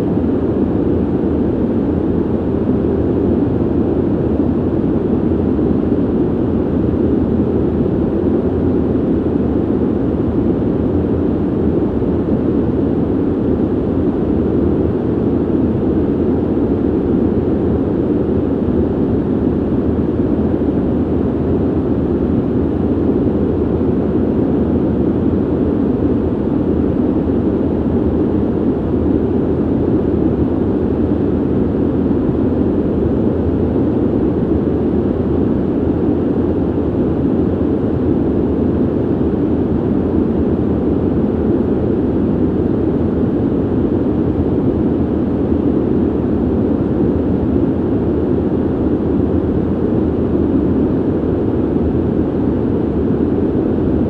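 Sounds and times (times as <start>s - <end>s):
ventilation airflow rumble: 0.0s - 54.0s.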